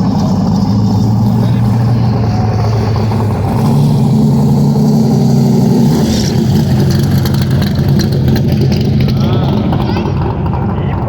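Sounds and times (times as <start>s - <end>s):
car engine running loudly: 0.0s - 11.0s.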